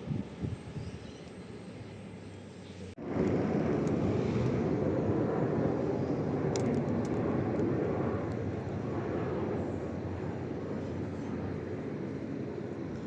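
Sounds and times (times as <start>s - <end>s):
electric train running past: 0.0s - 13.0s.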